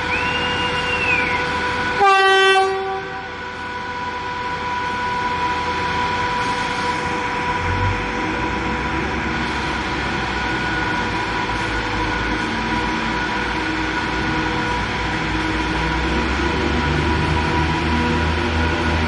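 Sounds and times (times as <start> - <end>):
train rumbling through station: 0.0 - 19.0.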